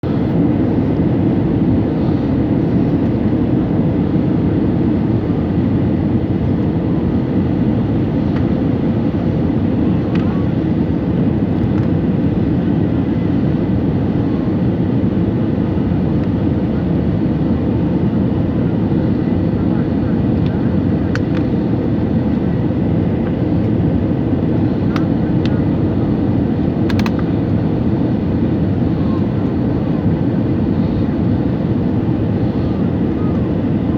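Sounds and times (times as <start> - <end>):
airliner cabin engine drone: 0.0 - 33.9.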